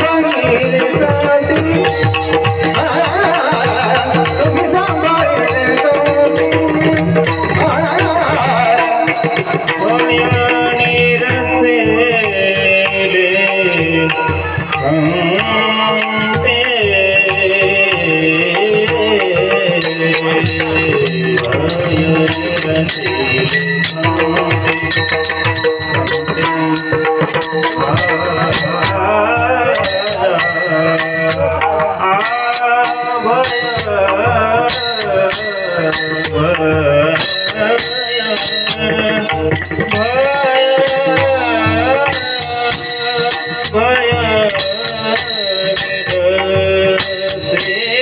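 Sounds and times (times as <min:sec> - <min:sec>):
mridang drum: 0:00.0 - 0:48.0
voices singing devotional melody: 0:00.0 - 0:48.0.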